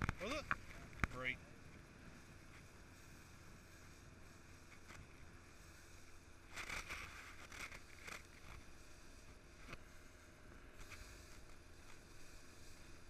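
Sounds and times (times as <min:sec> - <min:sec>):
low water rumble: 0:00.0 - 0:13.0.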